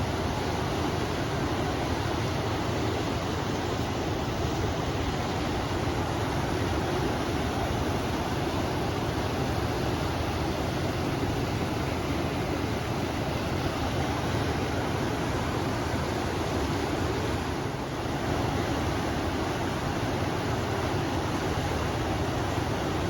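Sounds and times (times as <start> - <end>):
river water flowing: 0.0 - 23.0
wind: 0.0 - 23.0.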